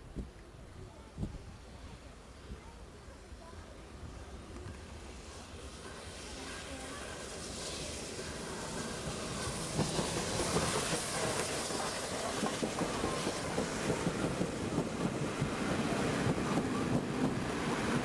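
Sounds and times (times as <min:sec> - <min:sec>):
steam train passing: 0:00.0 - 0:18.0.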